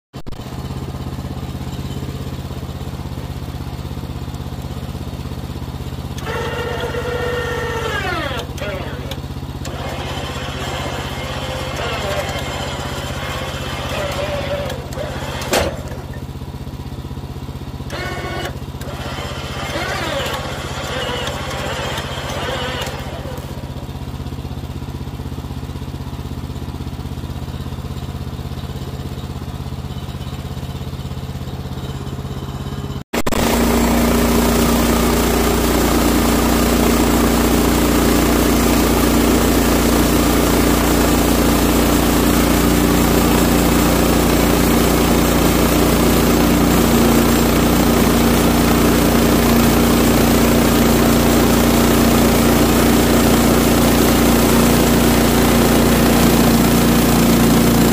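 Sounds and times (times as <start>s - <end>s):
sawmill engine running: 0.2s - 57.9s.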